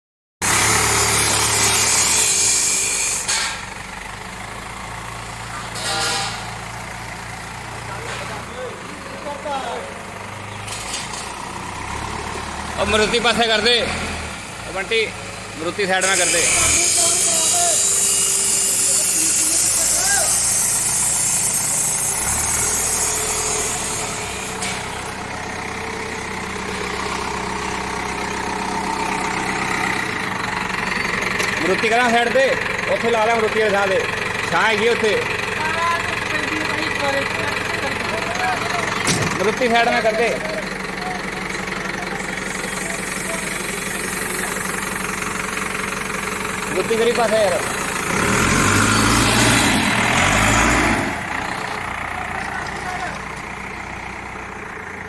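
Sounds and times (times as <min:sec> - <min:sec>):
diesel engine idling: 0:00.4 - 0:55.0.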